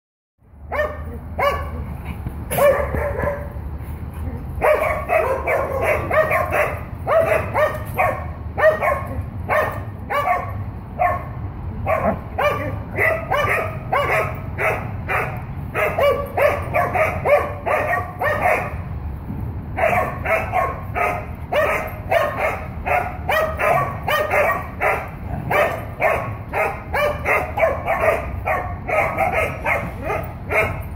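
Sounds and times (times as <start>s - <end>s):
dog play-barking: 2.5s - 3.6s, 4.6s - 18.9s, 19.8s - 30.9s.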